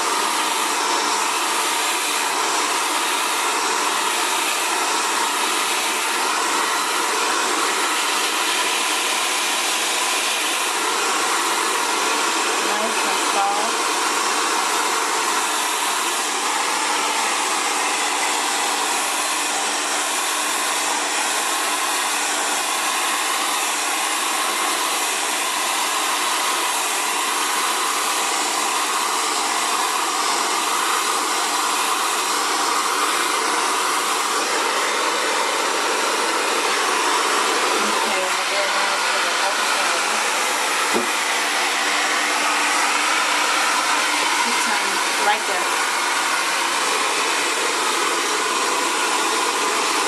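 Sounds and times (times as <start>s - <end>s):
hair dryer blowing: 0.0s - 50.0s.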